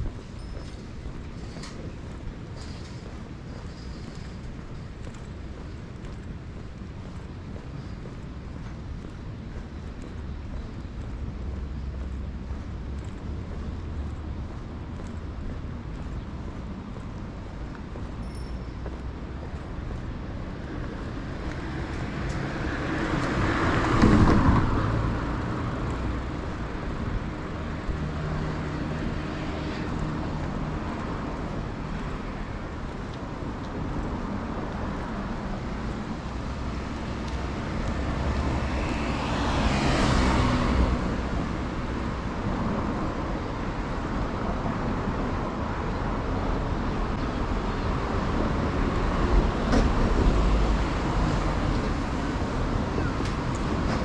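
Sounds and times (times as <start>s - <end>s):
road traffic rumble: 0.0s - 54.0s
vehicles passing close: 0.0s - 54.0s.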